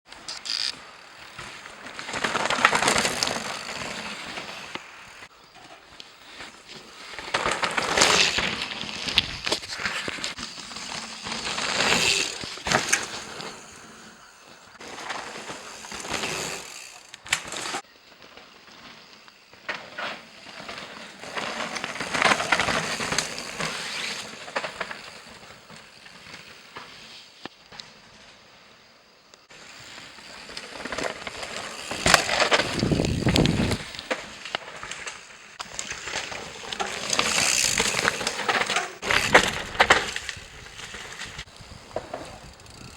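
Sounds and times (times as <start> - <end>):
bike rattling and clicking: 0.1 - 5.3, 6.4 - 17.8, 19.6 - 26.9, 29.6 - 42.9
bike tyres rolling on dirt: 0.1 - 42.9.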